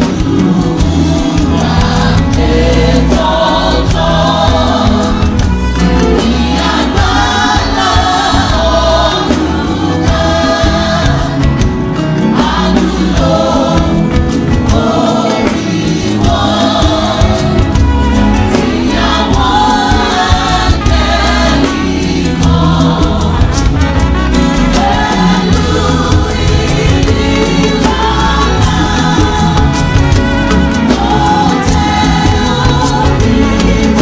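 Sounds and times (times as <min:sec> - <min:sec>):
bass and drums: 0:00.0 - 0:34.0
choir singing a gospel hymn: 0:00.0 - 0:34.0.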